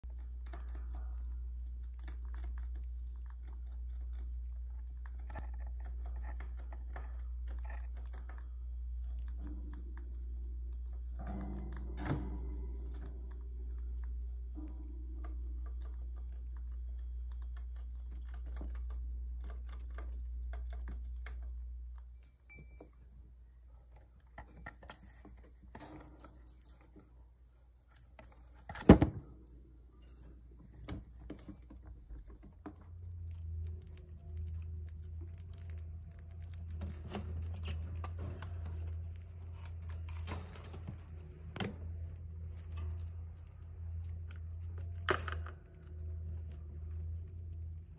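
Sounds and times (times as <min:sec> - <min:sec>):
low steady hum: 0:00.0 - 0:47.9
rats nibbling and scrabbling: 0:00.0 - 0:47.9.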